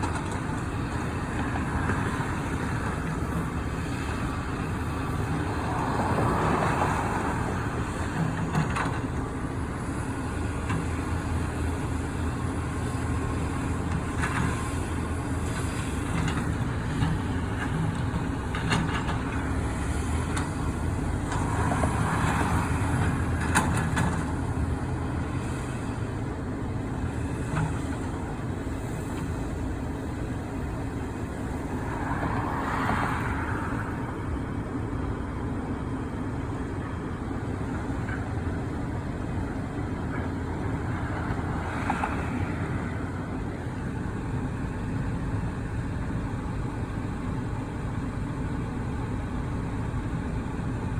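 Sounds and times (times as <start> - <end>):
heavy machinery engine hum: 0.0 - 50.9.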